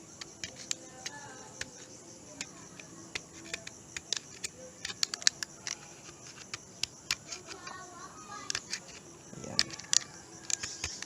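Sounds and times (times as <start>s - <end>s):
utility knife cutting plastic: 0.2s - 11.0s.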